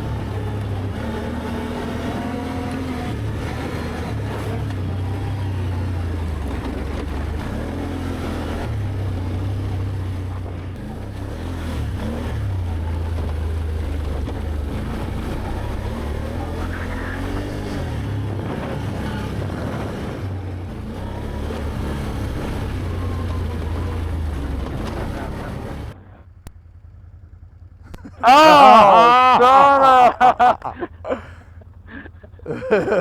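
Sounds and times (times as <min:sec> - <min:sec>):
atv engine revving: 0:00.0 - 0:33.0.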